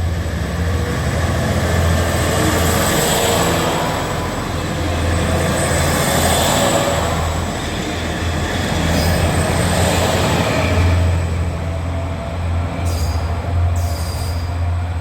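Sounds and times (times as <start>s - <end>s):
diesel railcar engine drone: 0.0s - 15.0s
train wheels on rails: 0.0s - 15.0s.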